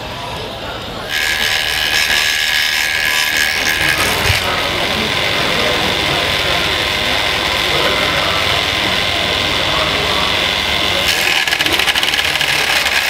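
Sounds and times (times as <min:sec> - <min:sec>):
model wood chipper whine: 0:00.0 - 0:13.0.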